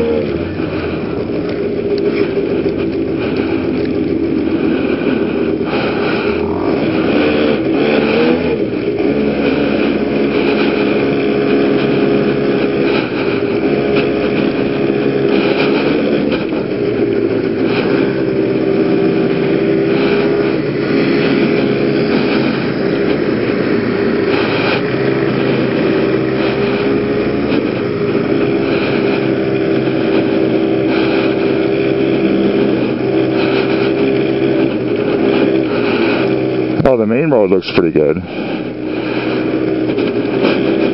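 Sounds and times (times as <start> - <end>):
scooter engine running: 0.0 - 40.9.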